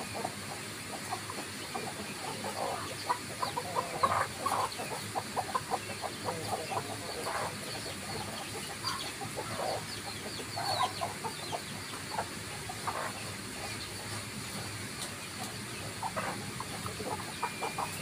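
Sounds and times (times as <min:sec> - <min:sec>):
chickens clucking: 0:00.0 - 0:18.0
high chick peeps: 0:00.0 - 0:18.0.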